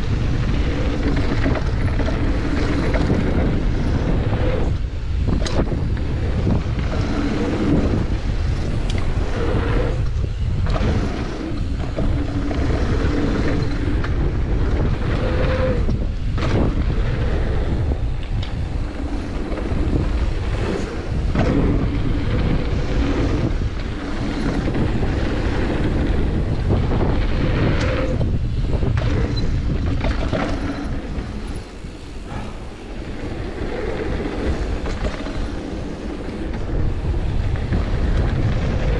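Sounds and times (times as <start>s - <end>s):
bike knocks and rattles: 0.0s - 38.9s
tyres rolling on dirt: 0.0s - 38.9s
wind rushing over microphone: 0.0s - 38.9s.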